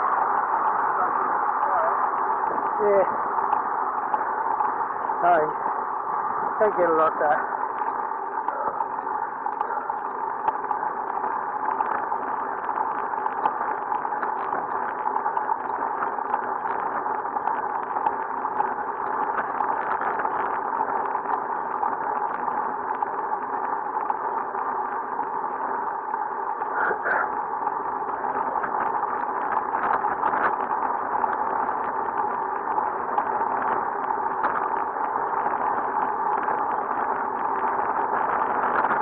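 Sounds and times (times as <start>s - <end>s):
bicycle tyres on road: 0.0s - 39.0s
wind over microphone: 0.0s - 39.0s.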